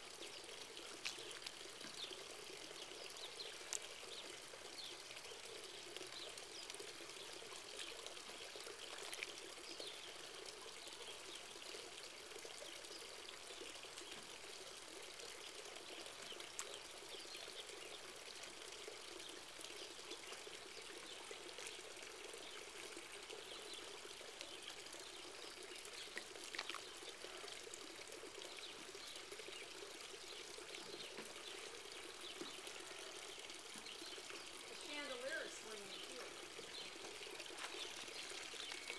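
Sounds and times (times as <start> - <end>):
pool water lapping and sloshing: 0.0 - 38.9.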